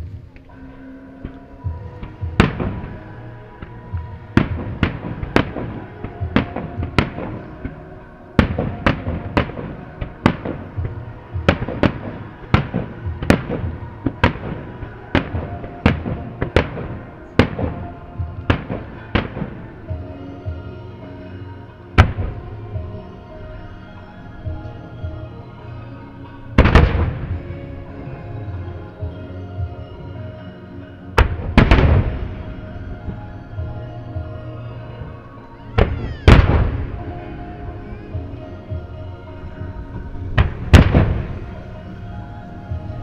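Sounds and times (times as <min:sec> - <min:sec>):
music with sustained tones: 0:00.0 - 0:43.0.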